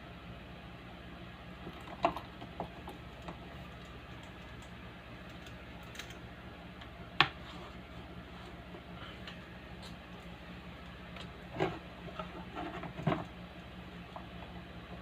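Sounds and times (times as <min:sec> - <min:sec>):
loudspeaker electrical hum: 0:00.0 - 0:15.0.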